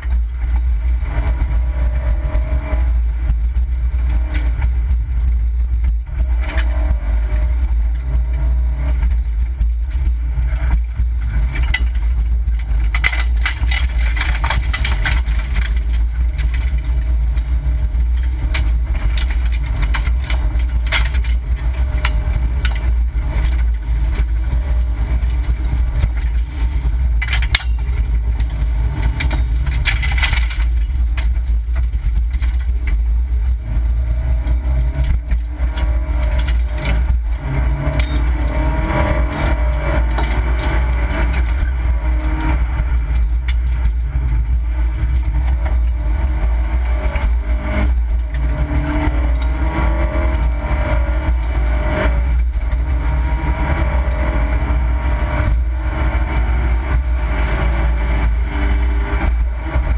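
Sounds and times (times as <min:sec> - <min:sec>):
car engine running hard: 0:00.0 - 0:59.9
gravel clattering against underbody: 0:08.1 - 0:59.9.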